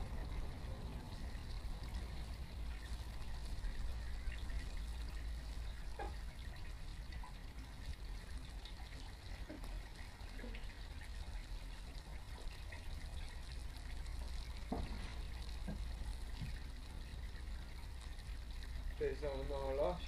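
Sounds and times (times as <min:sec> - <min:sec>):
faint crackles: 0:00.0 - 0:20.0
hissing flames: 0:00.0 - 0:20.0.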